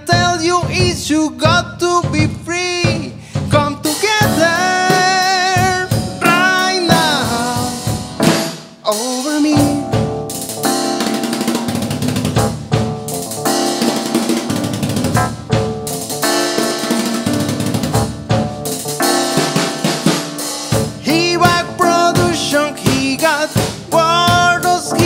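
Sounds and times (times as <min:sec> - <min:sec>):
snare and bass drum hits: 0:00.1 - 0:25.0
sustained keyboard chords: 0:04.2 - 0:08.9, 0:09.5 - 0:25.0.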